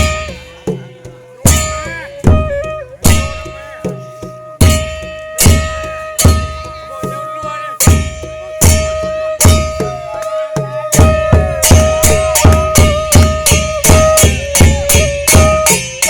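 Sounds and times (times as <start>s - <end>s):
drum thumps: 0.0s - 15.8s
metallic ringing tone: 1.4s - 16.0s.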